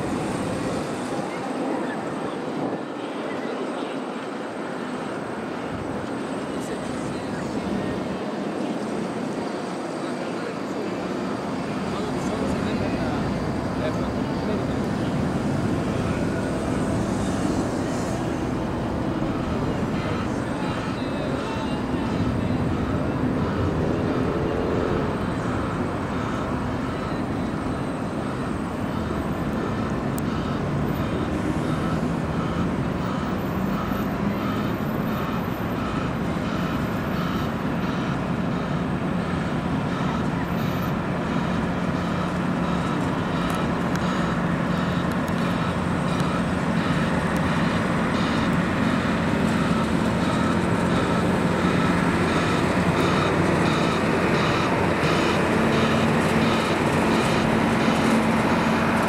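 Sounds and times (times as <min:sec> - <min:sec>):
traffic noise: 0:00.0 - 0:59.0
low engine drone: 0:03.8 - 0:59.0.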